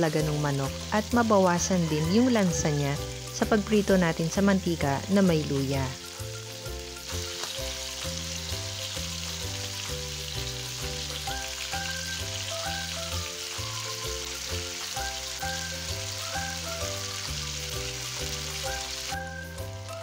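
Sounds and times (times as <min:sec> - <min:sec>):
background music with bass line: 0:00.0 - 0:20.0
chicken sizzling in hot oil: 0:00.0 - 0:20.0.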